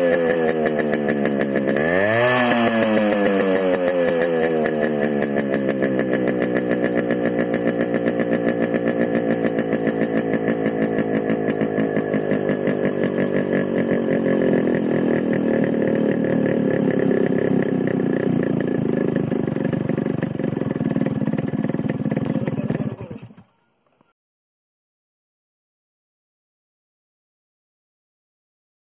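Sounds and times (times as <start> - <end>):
two-stroke engine revving high: 0.0 - 23.5.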